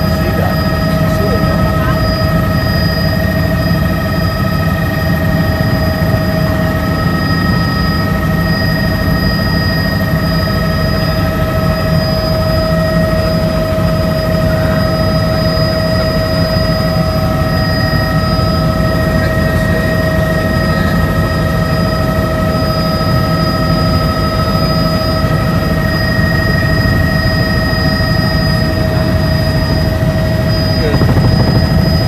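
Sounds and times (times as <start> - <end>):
helicopter low rumble: 0.0 - 32.0
high-pitched whining tones: 0.0 - 32.0.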